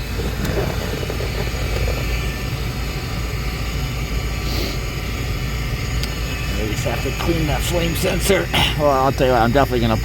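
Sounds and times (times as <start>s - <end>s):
heating unit fan and motor: 0.0s - 10.0s.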